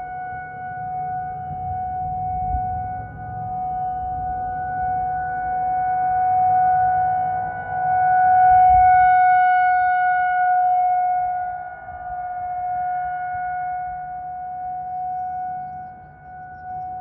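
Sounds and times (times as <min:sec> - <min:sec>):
warning siren steady tone: 0:00.0 - 0:17.0.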